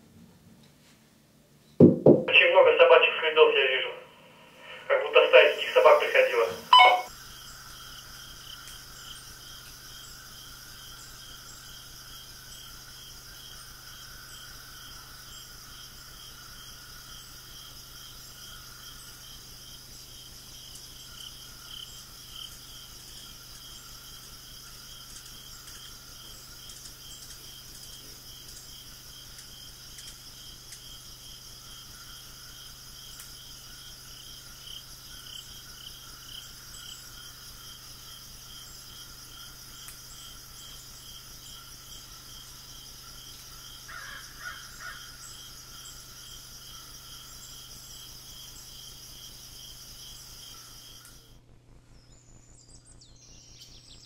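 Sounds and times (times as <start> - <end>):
high insect hum: 2.3 - 54.0
insects chirping: 2.4 - 51.4, 52.0 - 54.0.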